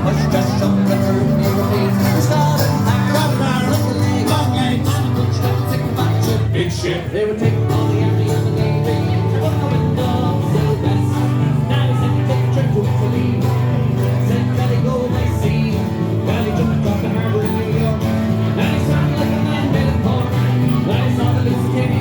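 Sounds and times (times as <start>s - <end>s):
bass line: 0.0s - 22.0s
folk band playing: 0.0s - 22.0s
guitar: 0.0s - 22.0s.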